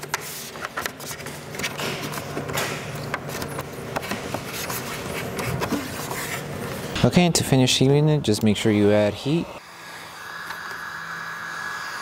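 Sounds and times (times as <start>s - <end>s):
steady low hum: 0.4s - 12.0s.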